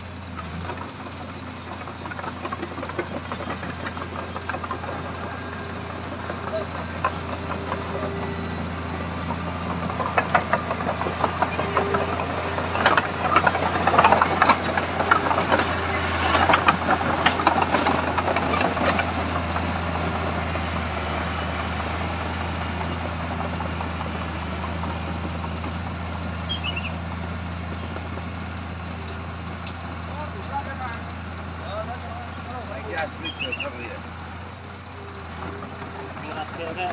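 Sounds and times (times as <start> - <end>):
diesel engine running: 0.0 - 36.9
steel tracks clanking: 1.7 - 36.9.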